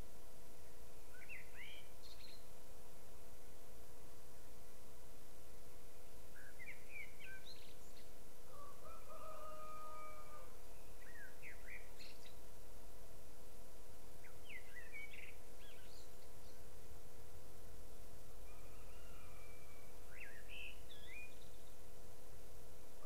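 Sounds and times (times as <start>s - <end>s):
background hum and hiss: 0.0s - 23.0s.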